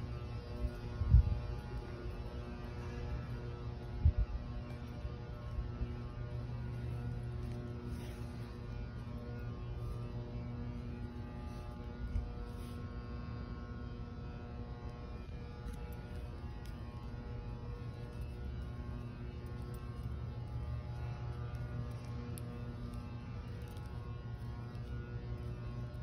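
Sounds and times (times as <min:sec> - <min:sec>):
faint steady tones: 0:00.0 - 0:26.0
low building hum: 0:00.0 - 0:26.0.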